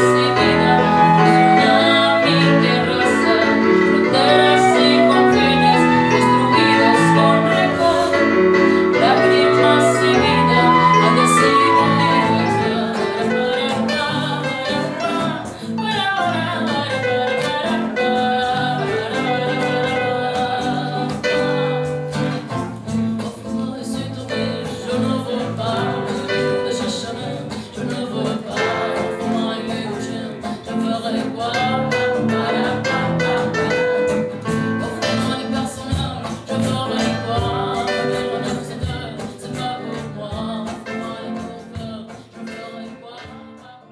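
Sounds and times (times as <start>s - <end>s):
guitar accompaniment: 0.0s - 43.9s
person singing: 0.0s - 43.9s.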